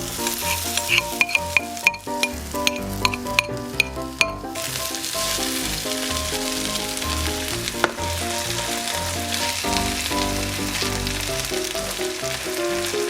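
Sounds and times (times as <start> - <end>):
food sizzling in a pan: 0.2 - 3.5, 4.6 - 13.0.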